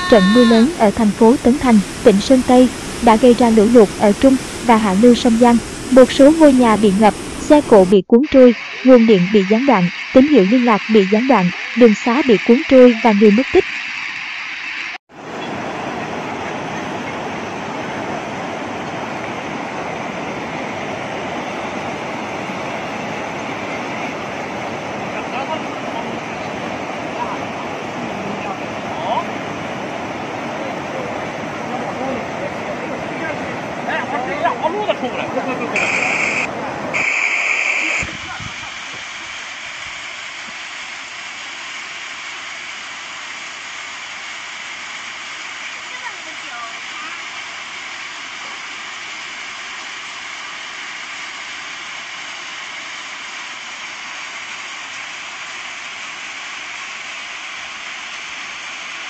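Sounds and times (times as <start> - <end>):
floodwater rushing: 0.0 - 7.7, 13.6 - 59.0.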